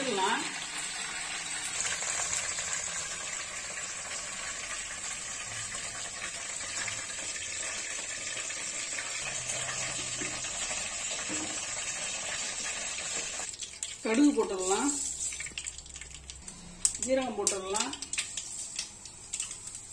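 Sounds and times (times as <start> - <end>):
hot oil sizzling in pan: 0.0 - 19.9.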